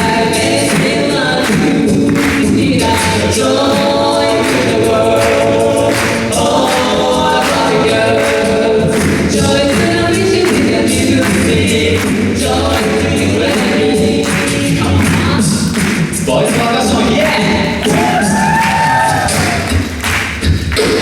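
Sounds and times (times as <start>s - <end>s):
vocal group singing in harmony: 0.0s - 21.0s.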